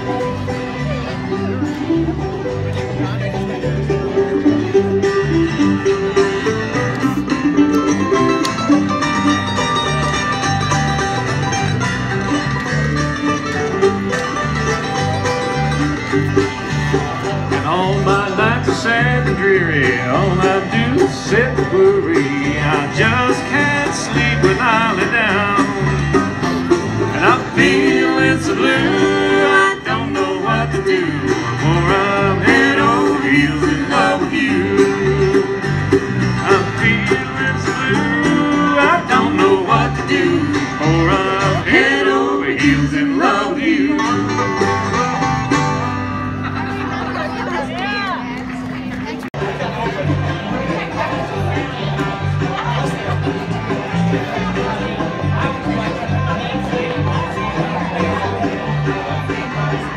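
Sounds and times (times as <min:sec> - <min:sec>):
alternating bass: 0:00.0 - 0:59.9
bluegrass banjo and guitar: 0:00.0 - 0:59.9.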